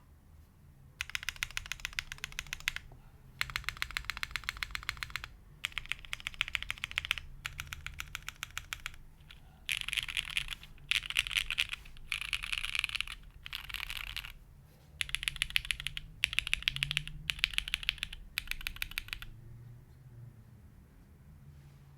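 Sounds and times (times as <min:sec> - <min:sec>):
fast typing on mechanical keyboard: 0:01.0 - 0:14.4, 0:15.0 - 0:19.3.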